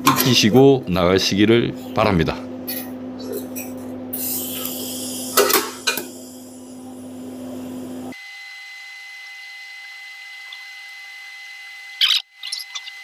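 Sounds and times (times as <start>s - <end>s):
thin high whine: 1.8s - 13.0s
welding machine humming: 2.5s - 13.0s.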